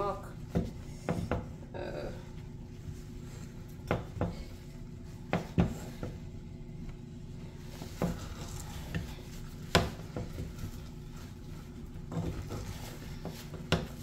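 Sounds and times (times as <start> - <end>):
spatula stirring thick dough: 0.3 - 14.0.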